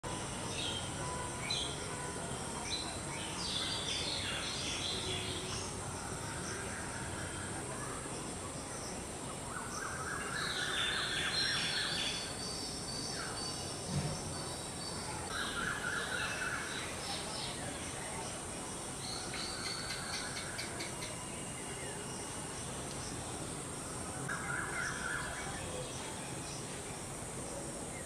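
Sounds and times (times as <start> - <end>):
birds chirping and warbling: 0.1 - 28.0.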